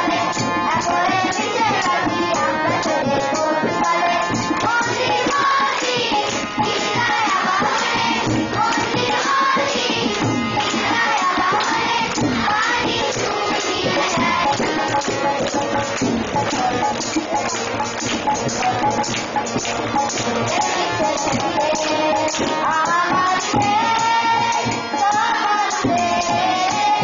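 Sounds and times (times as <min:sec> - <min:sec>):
children singing in unison: 0:00.0 - 0:27.0
steady percussive beat: 0:00.0 - 0:27.0.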